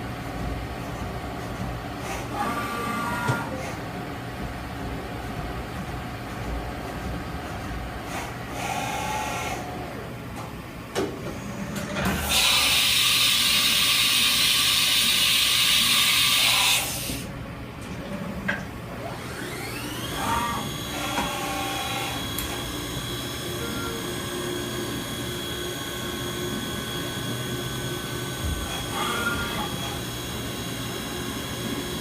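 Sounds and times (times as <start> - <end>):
machine steady hum: 0.0 - 32.0.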